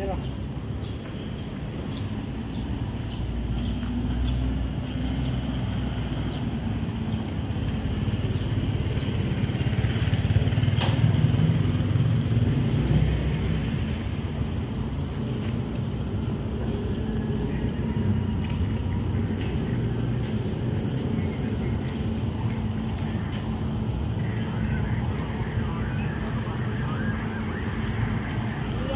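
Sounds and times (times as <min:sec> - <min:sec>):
traffic low rumble: 0:00.0 - 0:28.9
vehicle passing: 0:03.7 - 0:28.9.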